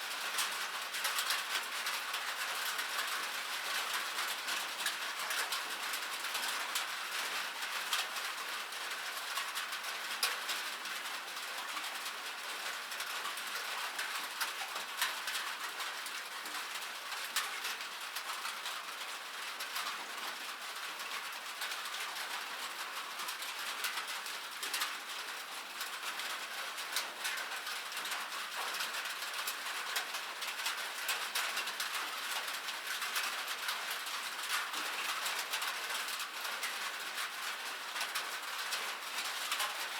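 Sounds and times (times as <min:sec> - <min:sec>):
rain pattering on metal: 0:00.0 - 0:39.9.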